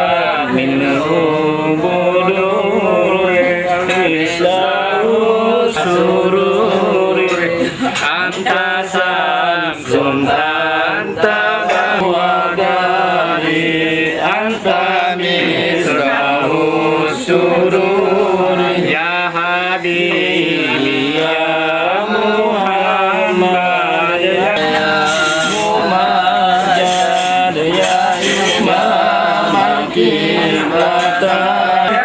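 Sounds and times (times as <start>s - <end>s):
voices chanting together: 0.0s - 32.0s.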